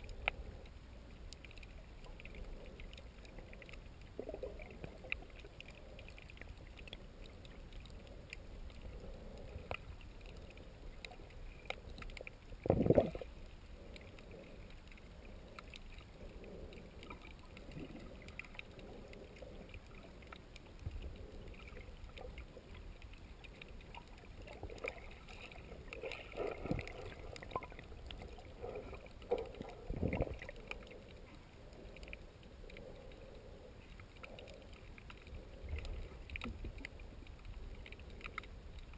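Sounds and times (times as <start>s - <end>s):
faint underwater clicks: 0.0s - 38.9s
muffled water surges: 0.0s - 38.9s.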